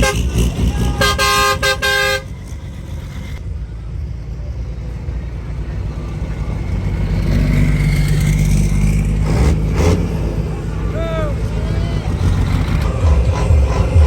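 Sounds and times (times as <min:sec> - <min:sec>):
diesel truck engines rumbling: 0:00.0 - 0:14.0.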